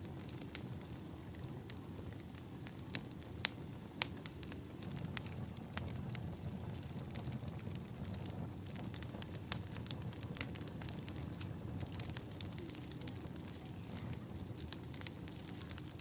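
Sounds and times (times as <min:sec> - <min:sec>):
fire crackling: 0:00.0 - 0:16.0
sharp pops of fire: 0:00.0 - 0:16.0.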